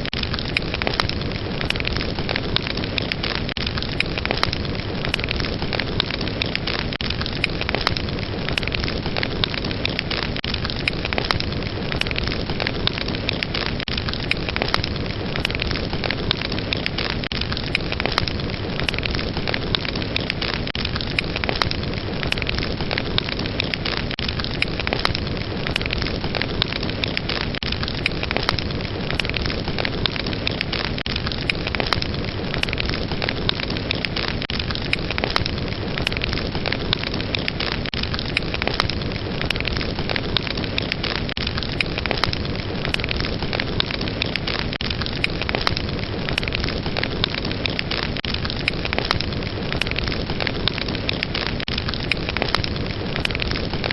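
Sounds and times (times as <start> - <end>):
fire crackling and hissing: 0.0 - 53.9.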